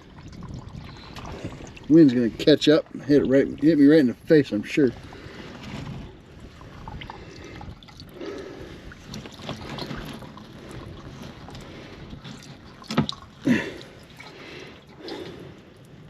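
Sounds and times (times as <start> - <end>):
wind on the microphone: 0.0 - 12.9.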